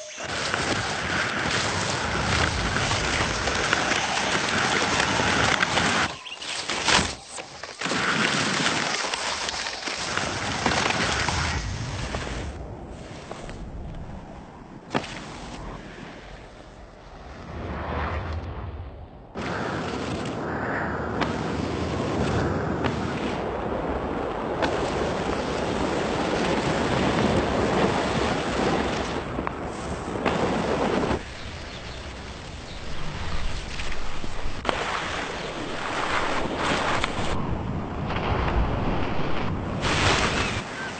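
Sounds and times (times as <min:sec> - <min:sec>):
wind noise on microphone: 0:00.0 - 0:07.2, 0:08.1 - 0:40.9
skis sliding over sand: 0:00.0 - 0:18.1, 0:19.4 - 0:40.9.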